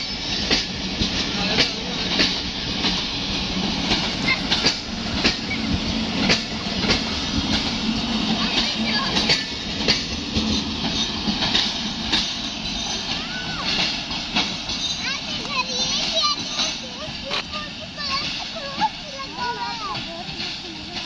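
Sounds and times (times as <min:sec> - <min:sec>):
train wheels rumbling on track: 0:00.0 - 0:21.0
wheels clicking over rail joints: 0:00.0 - 0:21.0.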